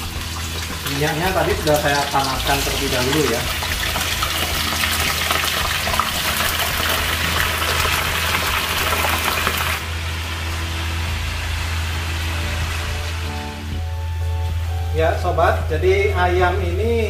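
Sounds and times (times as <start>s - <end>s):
chicken deep-frying in oil: 0.0s - 13.8s.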